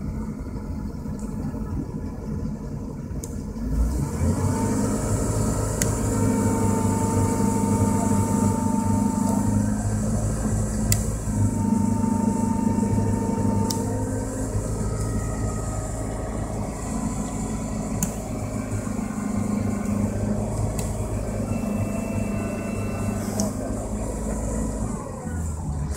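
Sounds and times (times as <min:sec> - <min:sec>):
boat engine humming: 0:00.0 - 0:25.9.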